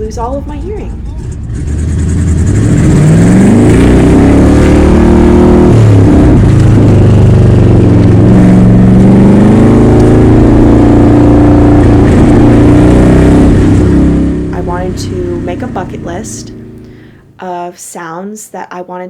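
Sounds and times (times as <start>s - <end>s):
vehicle engines revving: 0.0s - 17.4s.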